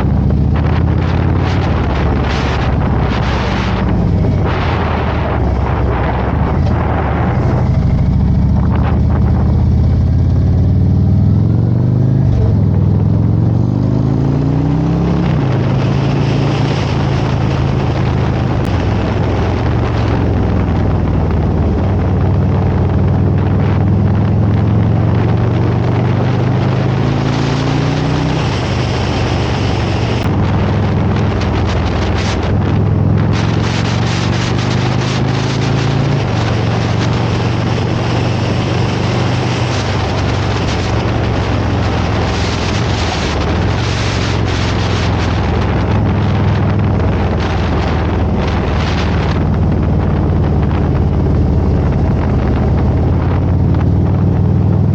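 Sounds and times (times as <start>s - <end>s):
gear changes: 0.0s - 54.9s
motorcycle engine: 0.0s - 54.9s
rushing wind: 0.0s - 54.9s.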